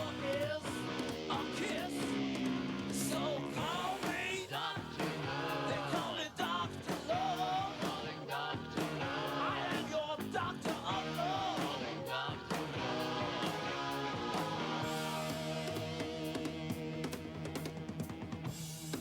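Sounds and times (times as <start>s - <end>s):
rock and roll music: 0.0s - 19.0s.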